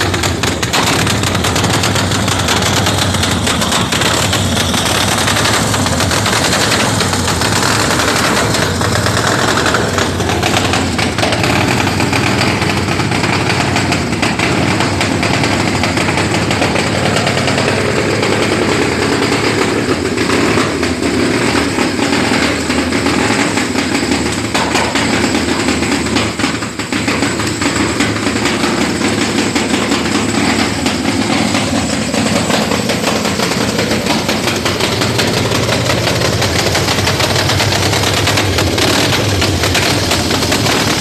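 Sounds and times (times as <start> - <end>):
motorcycle engine rapid firing: 0.0 - 41.0.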